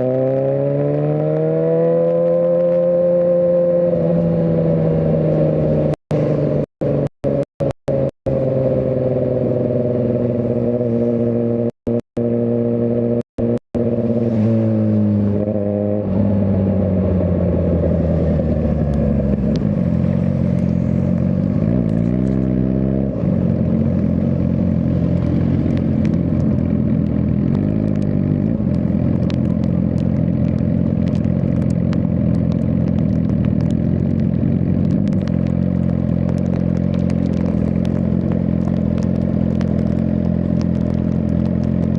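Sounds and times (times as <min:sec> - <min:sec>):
motorcycle engine slowing: 0:00.0 - 0:41.9.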